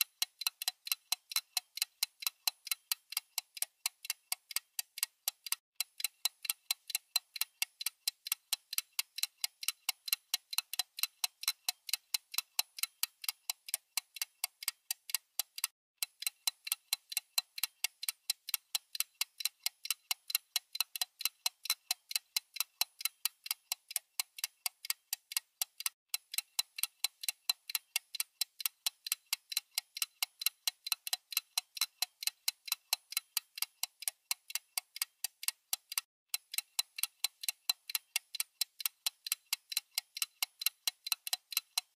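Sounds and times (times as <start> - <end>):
fast clock ticking: 0.0 - 41.9.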